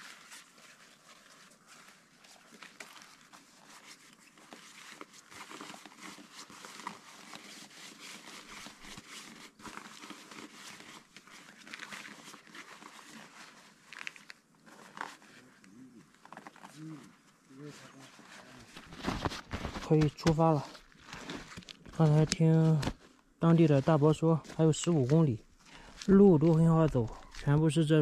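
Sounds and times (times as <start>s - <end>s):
sleeping pad rustling and crinkling: 0.0s - 28.0s.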